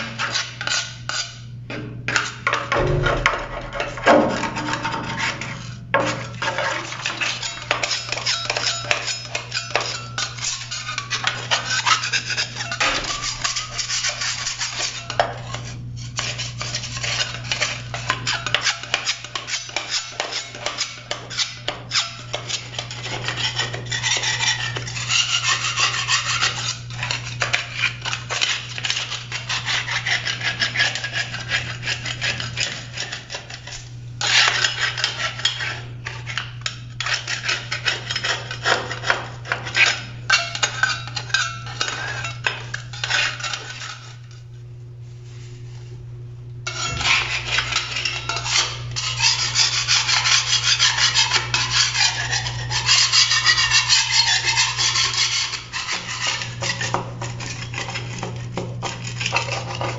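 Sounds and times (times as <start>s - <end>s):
putty knife scraping concrete: 0.0s - 1.4s, 2.1s - 44.4s, 46.7s - 59.9s.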